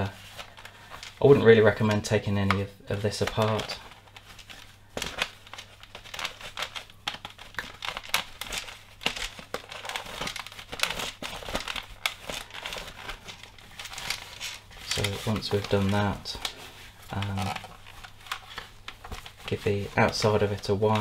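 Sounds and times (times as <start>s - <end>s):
cloth rubbing on plastic: 2.9s - 21.0s.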